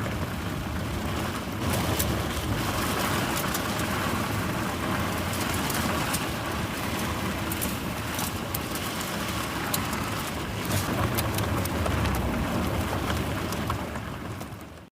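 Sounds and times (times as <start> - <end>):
low road rumble: 0.0 - 14.9.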